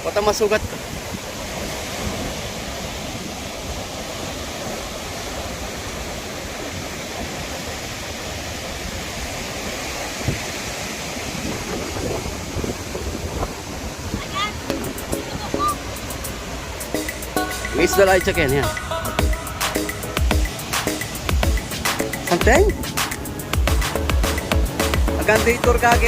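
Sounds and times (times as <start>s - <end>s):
sea surf: 0.0s - 26.0s
wind: 0.0s - 26.0s.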